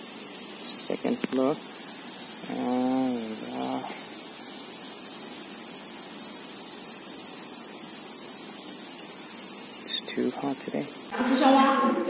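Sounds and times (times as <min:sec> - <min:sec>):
cicadas buzzing: 0:00.0 - 0:11.1.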